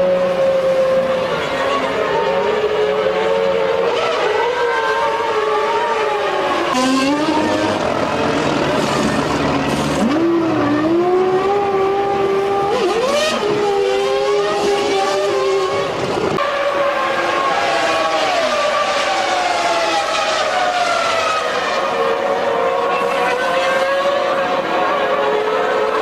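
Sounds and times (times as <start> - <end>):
racing car engines running: 0.0 - 26.0.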